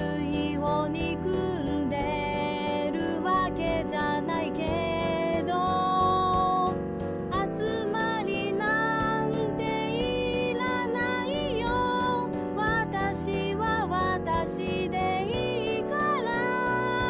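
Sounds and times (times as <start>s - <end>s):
person singing pop song: 0.0s - 17.0s.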